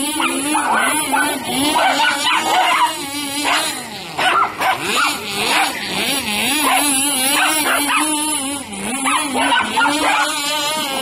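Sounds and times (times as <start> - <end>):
dogs yipping: 0.0 - 11.0
toy car motor whining: 0.0 - 11.0.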